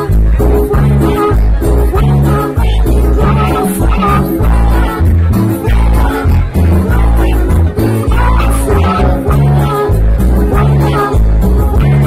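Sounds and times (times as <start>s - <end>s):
electric bass guitar: 0.0s - 12.0s
electric guitar: 0.0s - 12.0s.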